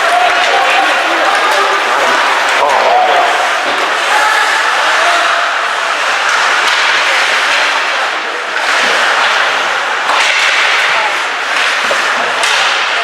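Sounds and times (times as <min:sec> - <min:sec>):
clacks of sticks puck and boards: 0:00.0 - 0:04.4, 0:05.2 - 0:13.0.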